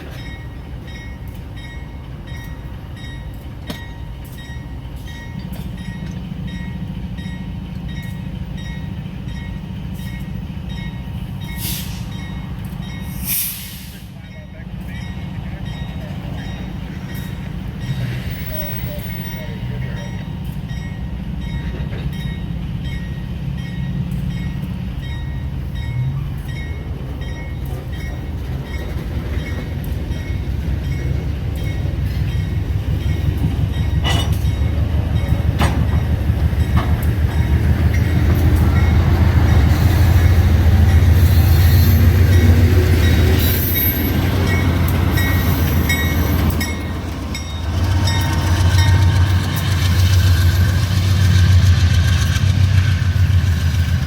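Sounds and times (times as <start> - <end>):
diesel locomotive engine rumble: 0.0 - 54.0
wheels clacking on rails: 0.0 - 54.0.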